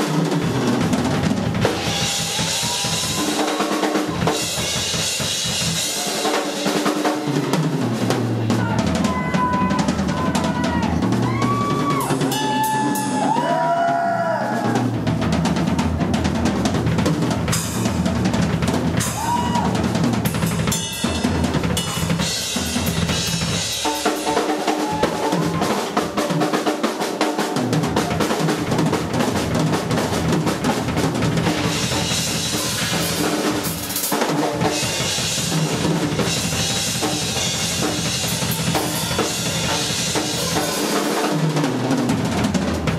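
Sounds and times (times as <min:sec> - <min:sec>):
drum kit: 0:00.0 - 0:42.9
heavy metal band playing: 0:00.0 - 0:42.9.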